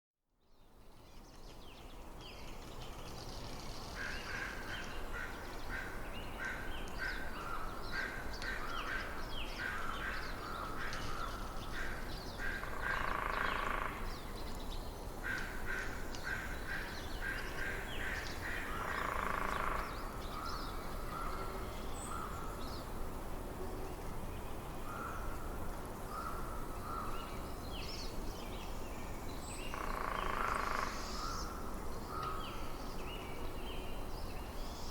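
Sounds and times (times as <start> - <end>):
low background hiss: 0.4 - 34.9.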